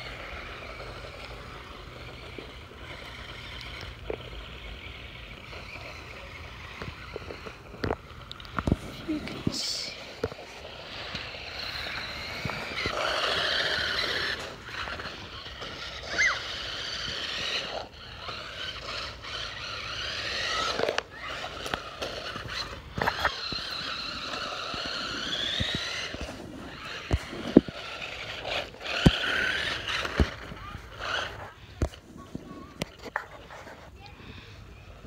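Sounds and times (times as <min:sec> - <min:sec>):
scraping: 0:00.0 - 0:33.9
remote control car motor whining: 0:00.0 - 0:35.0.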